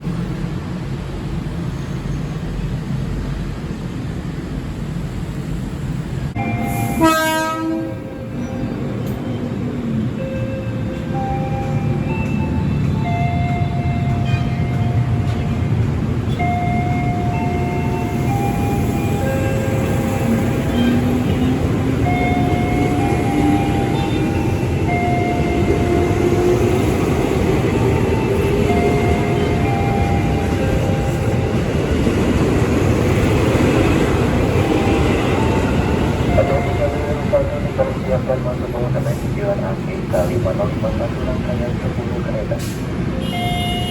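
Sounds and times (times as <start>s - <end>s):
train rumbling: 0.0s - 43.9s.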